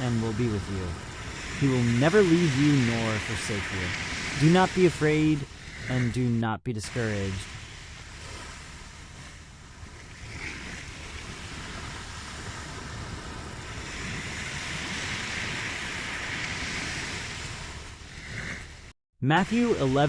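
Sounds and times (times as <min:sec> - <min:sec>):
ocean waves washing onto shore: 0:00.0 - 0:20.0.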